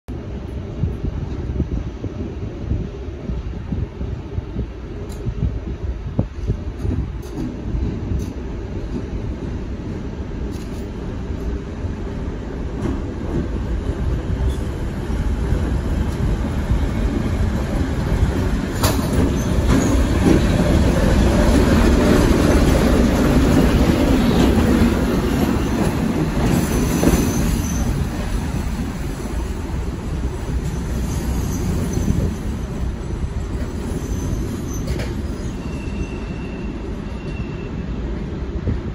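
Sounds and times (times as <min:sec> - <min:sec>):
diesel locomotive engine rumble: 0:00.1 - 0:38.9.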